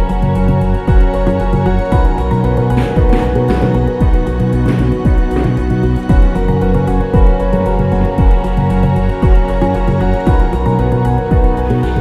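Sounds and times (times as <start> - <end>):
background music with electronic beat: 0.0 - 12.0.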